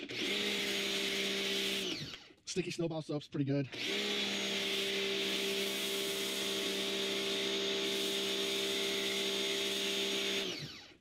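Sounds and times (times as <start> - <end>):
pressure washer humming: 0.0 - 2.1, 3.8 - 10.6.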